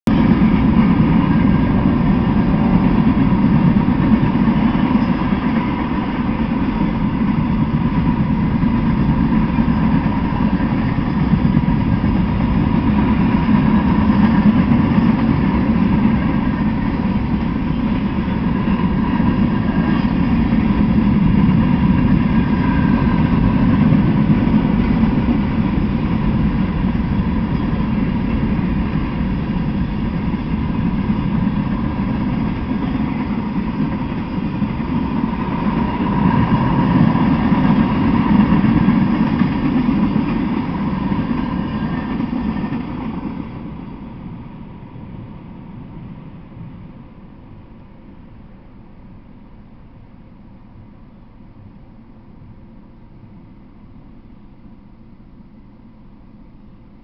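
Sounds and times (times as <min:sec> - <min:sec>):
train wheels rumbling on rails: 0:00.0 - 0:57.0
thin steady whine: 0:00.1 - 0:57.0.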